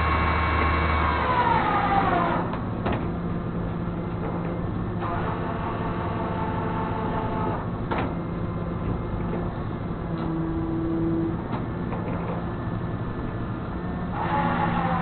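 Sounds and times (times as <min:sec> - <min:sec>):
mechanical whine: 0:00.0 - 0:15.0.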